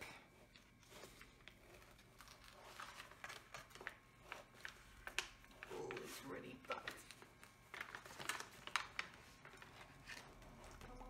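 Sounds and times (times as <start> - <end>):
paper rustling and crinkling: 0.5 - 11.0.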